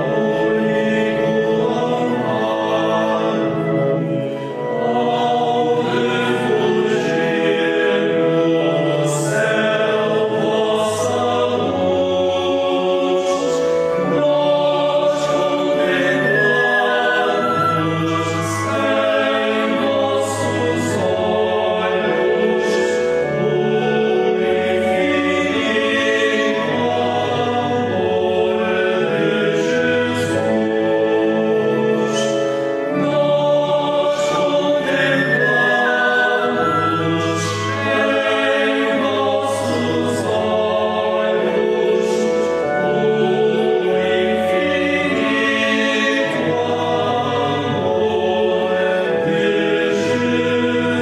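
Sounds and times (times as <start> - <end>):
choir singing a hymn: 0.0 - 51.0
flute playing: 0.0 - 51.0.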